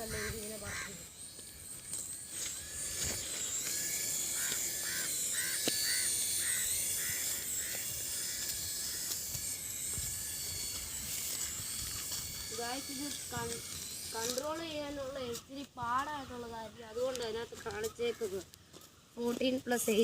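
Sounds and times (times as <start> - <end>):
toy helicopter motor whining: 0.0 - 20.0.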